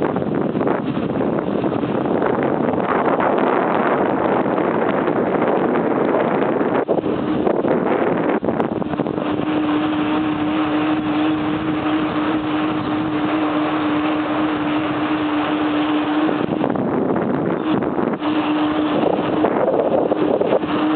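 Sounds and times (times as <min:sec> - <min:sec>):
steady hum: 0:00.0 - 0:20.9
wind rushing over microphone: 0:00.0 - 0:20.9.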